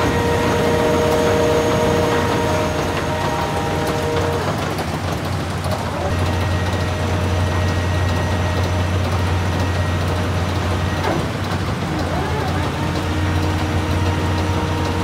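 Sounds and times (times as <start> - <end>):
shredder diesel engine drone: 0.0 - 15.0.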